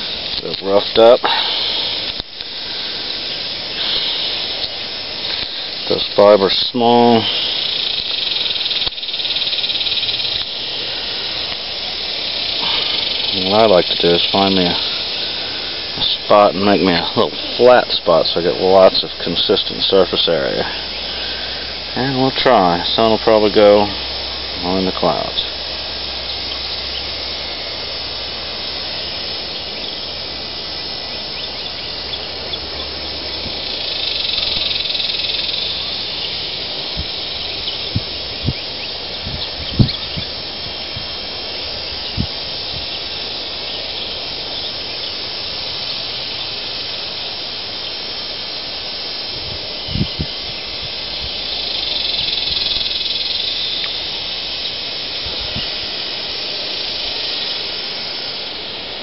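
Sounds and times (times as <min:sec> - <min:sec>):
insects buzzing: 0:00.0 - 0:59.0
outdoor hiss: 0:00.0 - 0:59.0.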